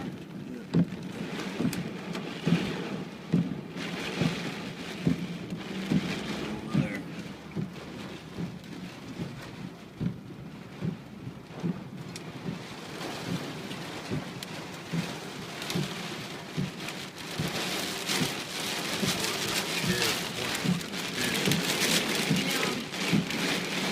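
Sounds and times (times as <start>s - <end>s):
rain falling: 0.0s - 23.9s.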